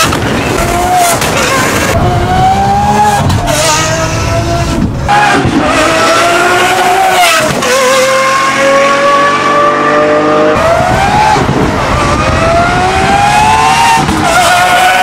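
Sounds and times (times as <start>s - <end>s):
car engine accelerating hard: 0.6s - 15.0s.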